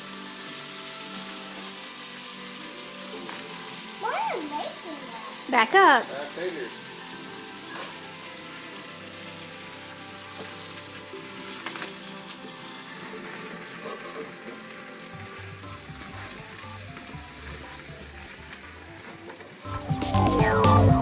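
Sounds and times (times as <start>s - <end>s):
faint music: 0.0s - 21.0s
steady hiss: 0.0s - 21.0s.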